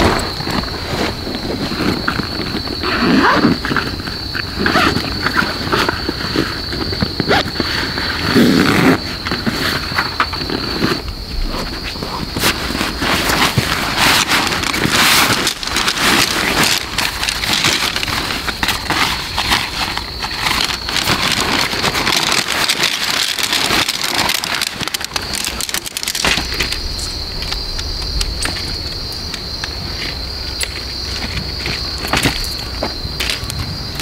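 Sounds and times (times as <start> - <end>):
nylon fabric rustling and crinkling: 0.0 - 29.2, 29.9 - 33.6
insects droning: 0.0 - 34.0.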